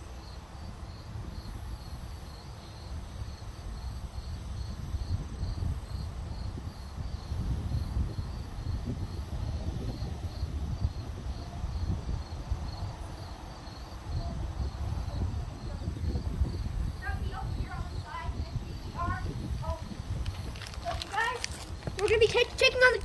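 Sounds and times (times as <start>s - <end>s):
cricket chirping: 0.0s - 23.0s
wind rumble on microphone: 0.0s - 23.0s.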